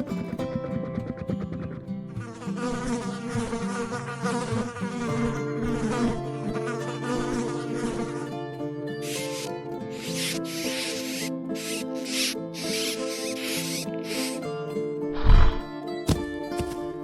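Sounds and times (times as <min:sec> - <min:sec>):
insect-like buzzing drone: 0:00.0 - 0:15.7.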